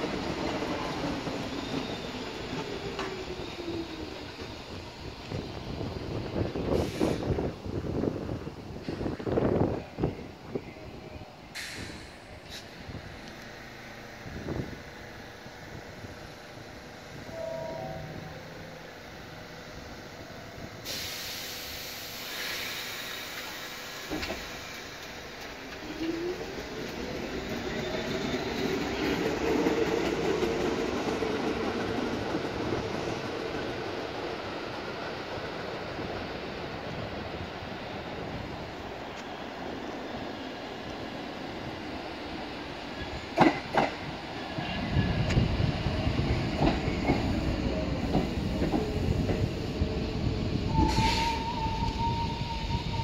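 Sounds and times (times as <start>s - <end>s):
subway train wheels rumbling: 0.0s - 53.0s.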